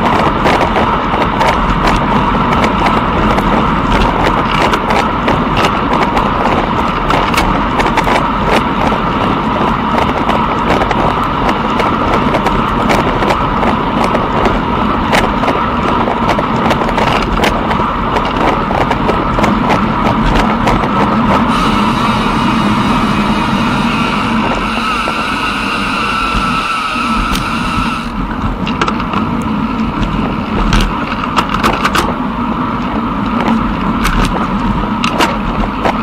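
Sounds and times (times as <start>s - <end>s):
rushing noise of movement: 0.0s - 36.0s.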